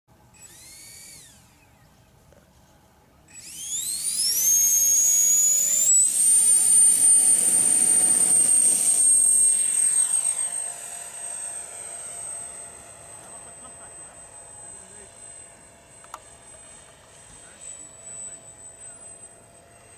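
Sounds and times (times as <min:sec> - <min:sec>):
electric fan high whine: 0:00.1 - 0:19.9.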